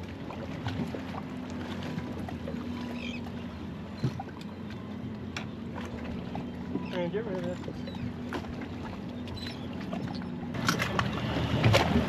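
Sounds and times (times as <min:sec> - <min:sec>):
boat engine low hum: 0:00.0 - 0:12.0.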